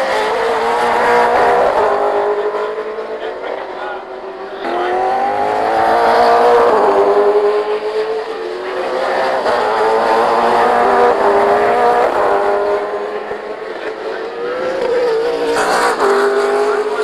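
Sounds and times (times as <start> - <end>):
racing engines revving: 0.0 - 17.0.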